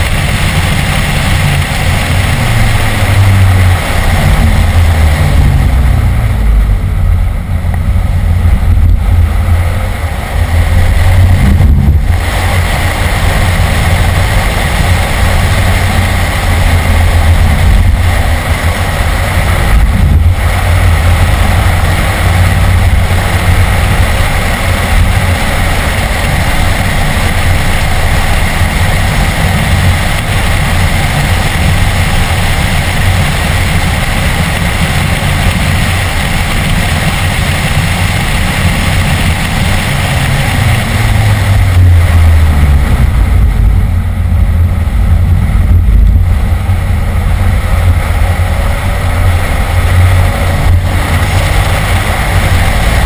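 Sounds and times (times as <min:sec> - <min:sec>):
car engine running loud: 0:00.0 - 0:53.0
road and wind noise: 0:00.0 - 0:53.0.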